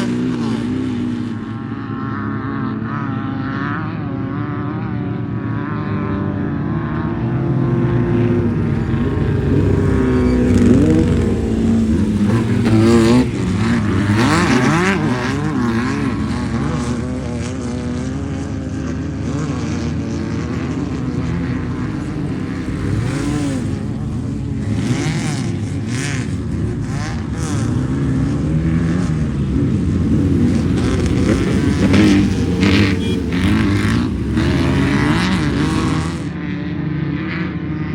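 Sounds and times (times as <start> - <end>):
race car engines revving: 0.0 - 37.9.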